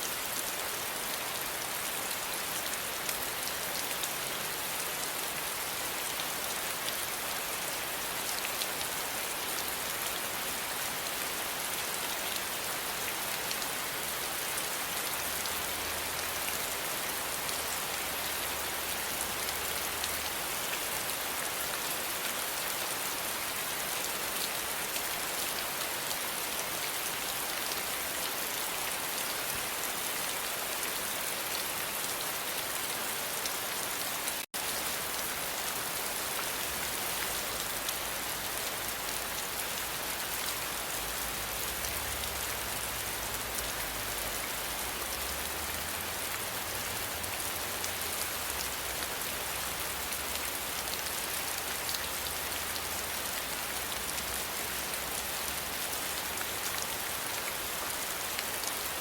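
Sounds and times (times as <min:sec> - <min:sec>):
dense rainfall: 0:00.0 - 0:59.0.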